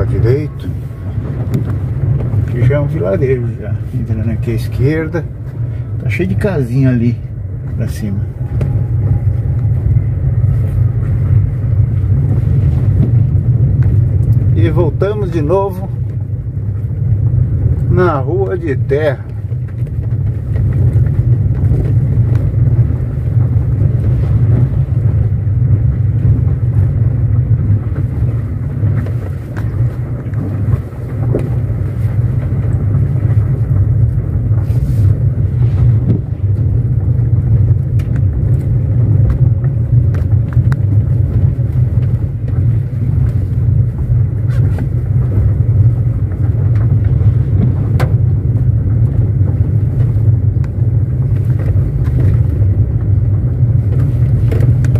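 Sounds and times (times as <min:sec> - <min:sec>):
car driving on gravel road: 0:00.0 - 0:54.9.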